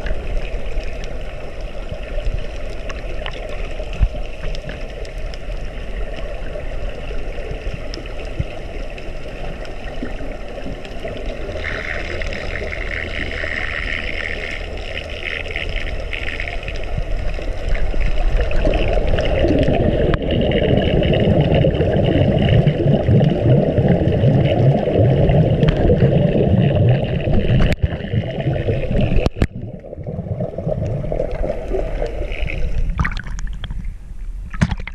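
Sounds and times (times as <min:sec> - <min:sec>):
gurgling air bubbles: 0:00.0 - 0:05.1, 0:05.7 - 0:34.9
muffled underwater rush: 0:00.0 - 0:34.9.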